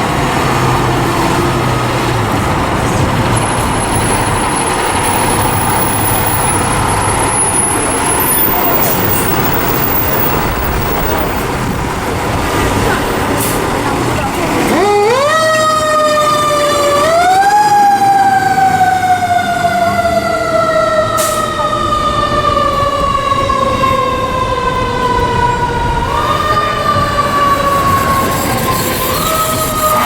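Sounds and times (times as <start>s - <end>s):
fire engine siren wailing: 0.0s - 30.0s
truck engine rumble: 0.0s - 30.0s.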